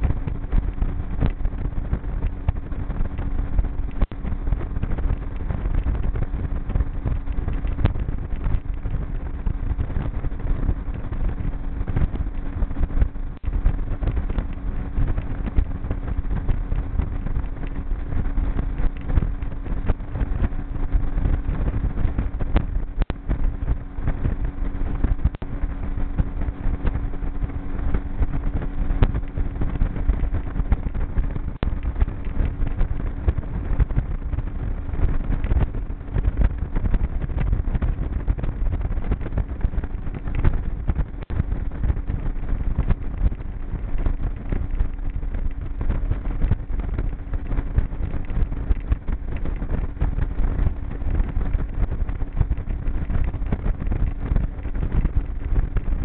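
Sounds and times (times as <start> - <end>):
outboard motor humming: 0.0 - 56.0
wind rumble on microphone: 0.0 - 56.0.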